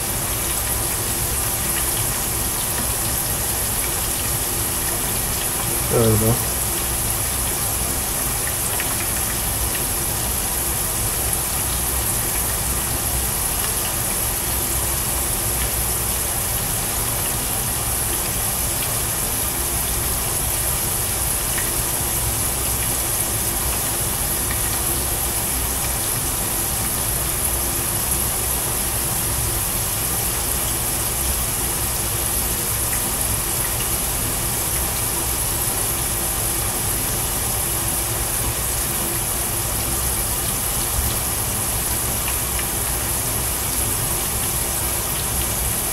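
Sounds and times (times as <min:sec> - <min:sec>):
fries sizzling in hot oil: 0:00.0 - 0:45.9.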